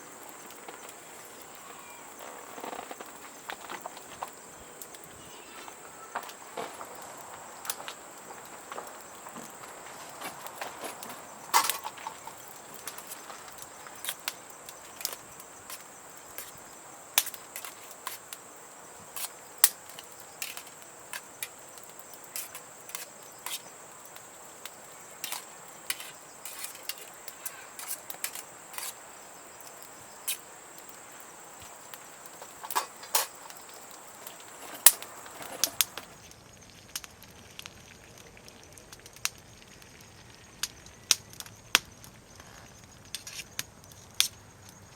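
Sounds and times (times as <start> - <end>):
low steady hiss: 0.0 - 44.9
wood fire crackling: 0.0 - 44.9.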